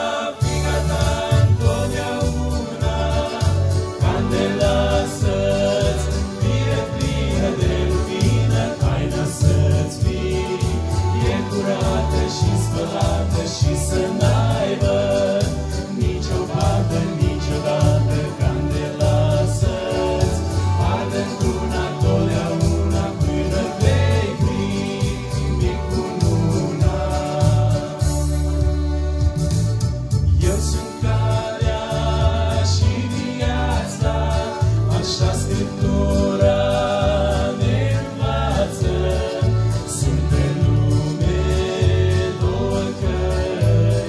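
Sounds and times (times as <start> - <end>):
male vocal group singing: 0.0 - 29.0, 30.4 - 44.0
pulsing bass accompaniment: 0.4 - 44.0.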